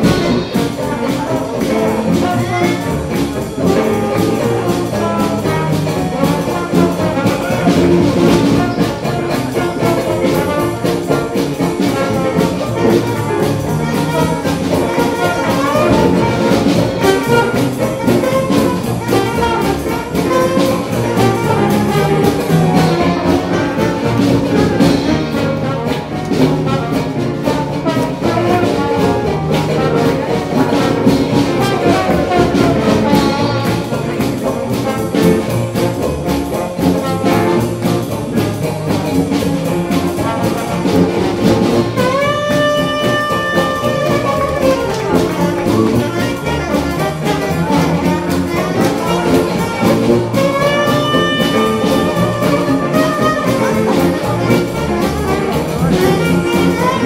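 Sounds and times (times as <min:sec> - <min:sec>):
jazz band playing: 0:00.0 - 0:57.0.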